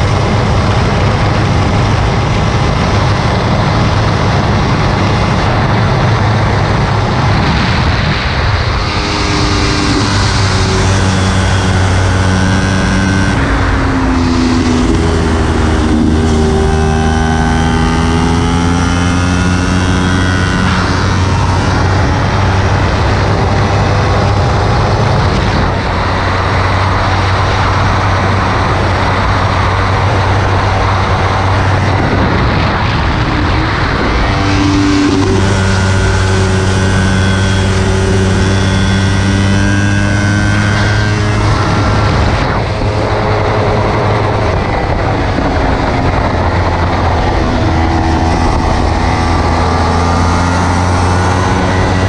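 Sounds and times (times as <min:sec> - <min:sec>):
motorcycle engine running hard: 0:00.0 - 0:52.0
wind rush on microphone: 0:00.0 - 0:52.0.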